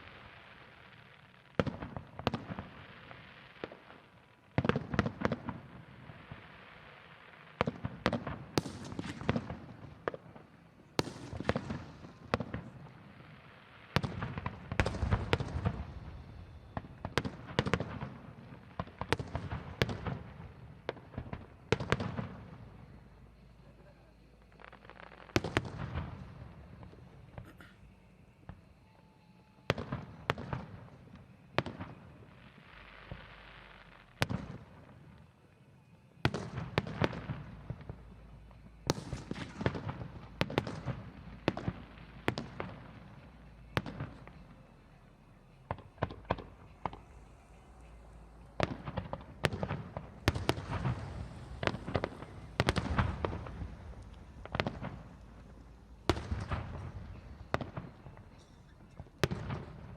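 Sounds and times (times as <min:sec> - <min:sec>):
fireworks bursting with bangs: 0:00.0 - 0:59.9.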